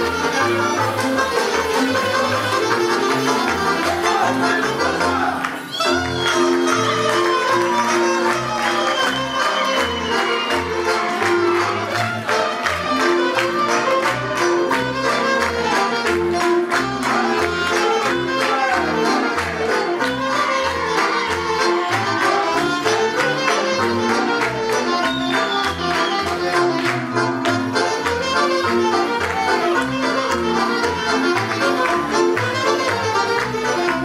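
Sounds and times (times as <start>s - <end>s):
folk dance music: 0.0s - 34.0s.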